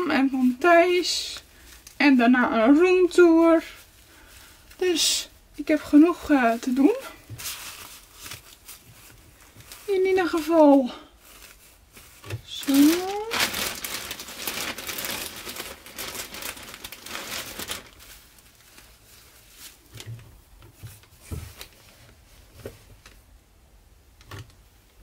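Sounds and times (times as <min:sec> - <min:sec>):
plastic bag and diapers crinkling: 0:00.0 - 0:23.2.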